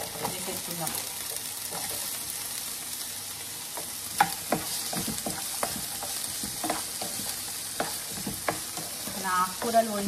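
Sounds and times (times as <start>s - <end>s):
spatula scraping and knocking pan: 0.0s - 2.3s, 3.6s - 10.0s
vegetables sizzling in oil: 0.0s - 10.0s.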